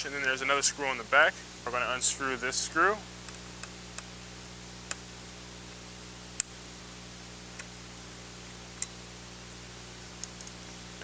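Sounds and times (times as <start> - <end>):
hiss and hum: 0.0 - 11.0.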